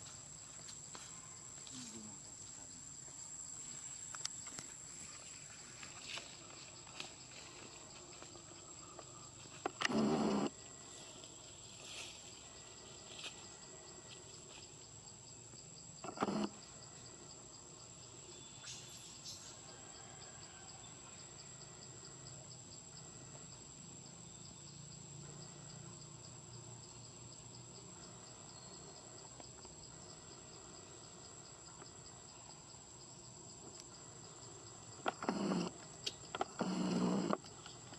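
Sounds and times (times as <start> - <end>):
insects whining: 0.0 - 37.9
fast pulsing insect chirp: 1.4 - 37.9.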